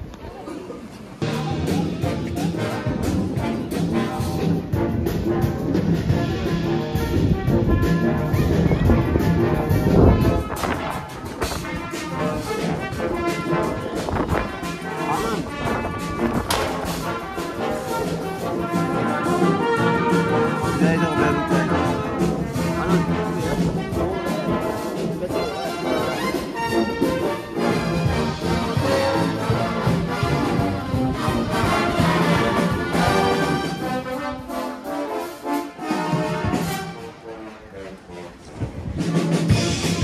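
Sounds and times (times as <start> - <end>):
brass band playing: 1.1 - 40.0.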